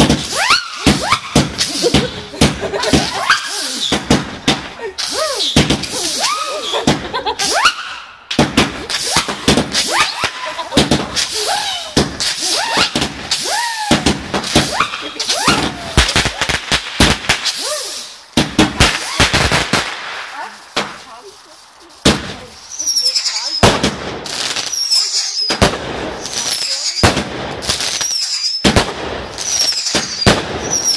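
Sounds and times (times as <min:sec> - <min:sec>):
fireworks bangs and crackles: 0:00.0 - 0:30.9
fireworks whistling: 0:00.0 - 0:30.9.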